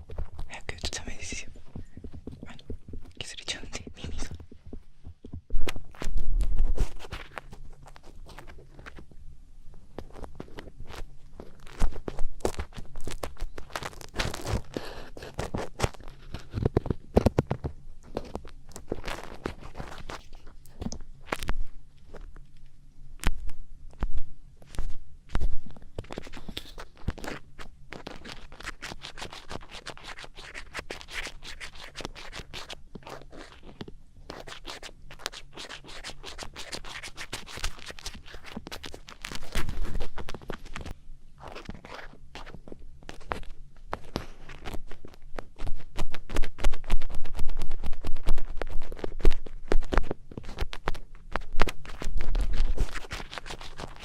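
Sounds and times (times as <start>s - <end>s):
ear pick scratching microphone: 0.0s - 9.1s, 10.0s - 22.3s, 23.2s - 54.0s.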